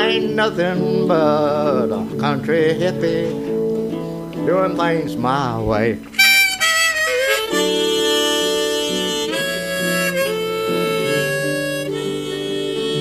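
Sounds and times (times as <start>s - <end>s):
harmonica playing: 0.0s - 5.1s, 5.9s - 13.0s
acoustic guitar: 0.0s - 13.0s.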